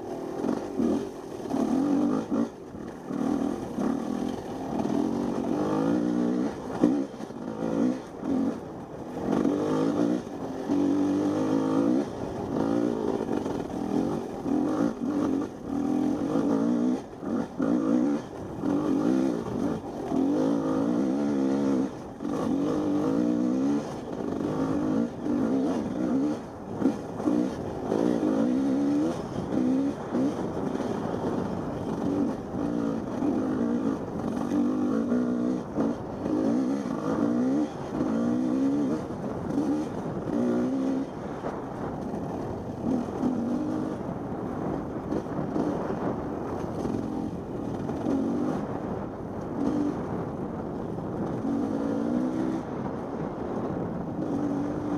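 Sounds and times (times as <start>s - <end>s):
dirt bike engine revving: 0.0s - 41.4s, 42.0s - 50.3s, 51.1s - 54.9s.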